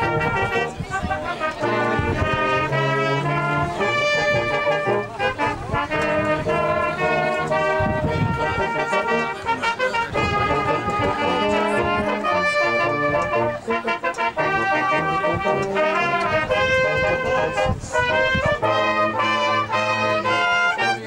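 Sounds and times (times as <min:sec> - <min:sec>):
brass band playing: 0:00.0 - 0:21.0.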